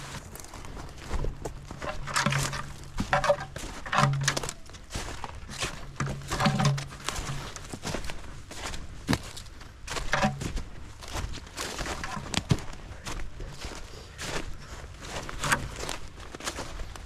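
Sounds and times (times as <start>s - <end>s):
footsteps crunching through snow and leaves: 0.0s - 17.0s.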